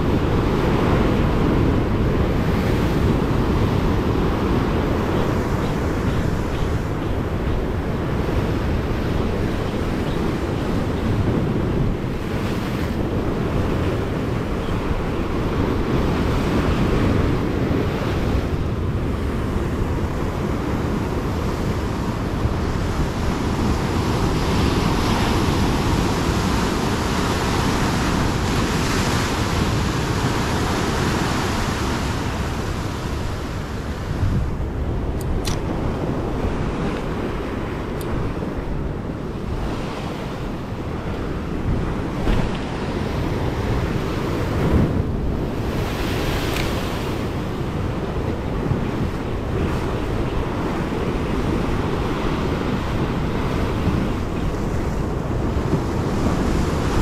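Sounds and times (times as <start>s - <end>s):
ocean surf breaking on rocks: 0.0s - 57.0s
wind buffeting microphone: 0.0s - 57.0s.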